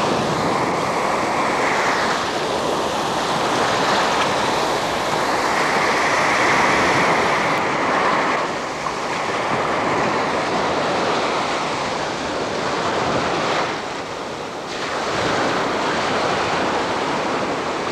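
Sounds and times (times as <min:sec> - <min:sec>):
steady rushing noise: 0:00.0 - 0:17.9.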